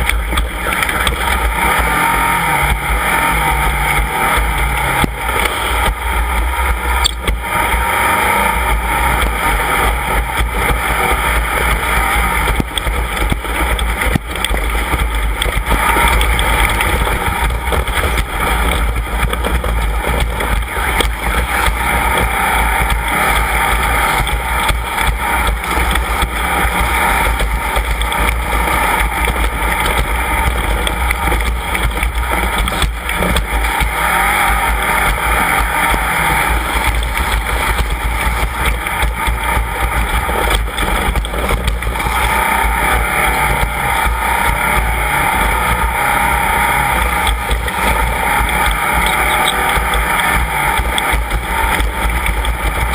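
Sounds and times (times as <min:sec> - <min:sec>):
off-road vehicle engine: 0:00.0 - 0:52.9.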